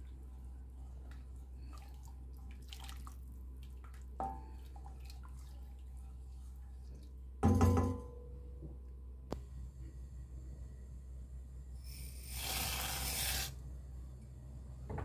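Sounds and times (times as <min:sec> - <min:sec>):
low steady hum: 0:00.0 - 0:12.4, 0:13.5 - 0:15.0.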